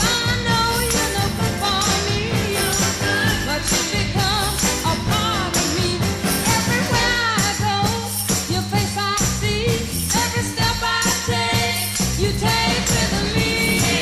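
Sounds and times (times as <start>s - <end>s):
swing band accompaniment: 0.0s - 14.0s
women singing with vibrato: 0.0s - 14.0s.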